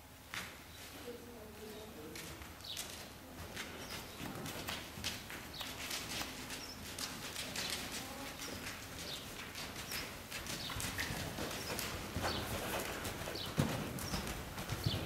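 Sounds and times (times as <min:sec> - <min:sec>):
horse hoofbeats on sand: 0:01.6 - 0:15.0.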